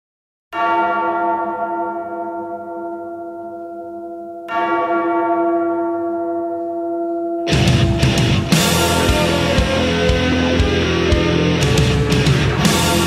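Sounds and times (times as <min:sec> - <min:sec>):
large bell tolling: 0:00.6 - 0:13.0.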